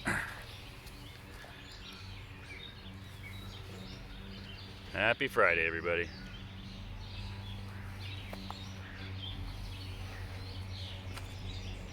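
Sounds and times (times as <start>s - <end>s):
bird chirps: 0.0s - 11.9s
steady low hum: 0.0s - 11.9s.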